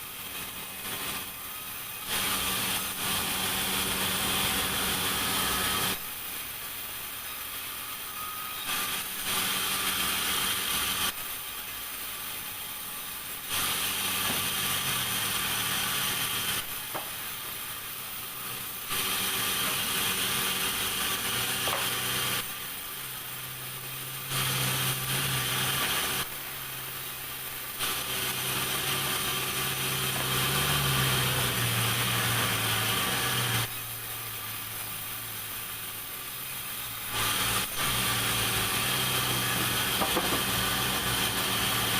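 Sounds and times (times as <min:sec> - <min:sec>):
saw cutting hiss: 0:00.0 - 0:41.9
sawmill machinery hum: 0:00.0 - 0:41.9.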